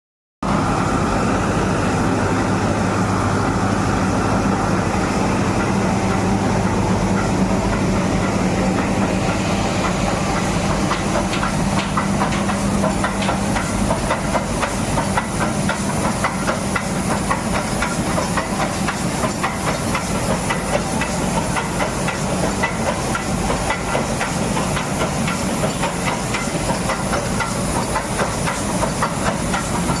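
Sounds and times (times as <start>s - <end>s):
steam locomotive hissing steam: 0.4s - 30.0s.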